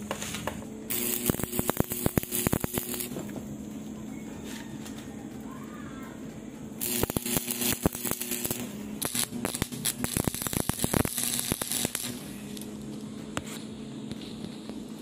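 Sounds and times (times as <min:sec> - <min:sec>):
arc welding crackling and popping: 0:00.0 - 0:15.0.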